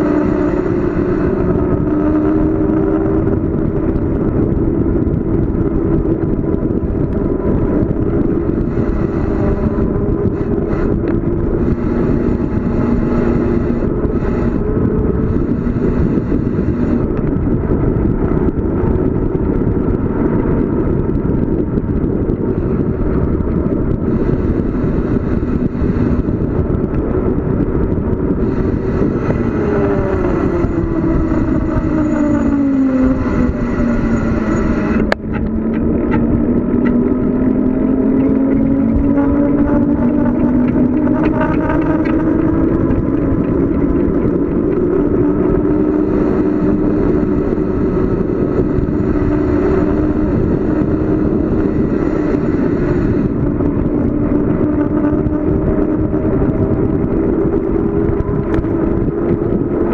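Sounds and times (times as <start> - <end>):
steady low tone: 0.0 - 59.9
wind rushing over microphone: 0.0 - 59.9.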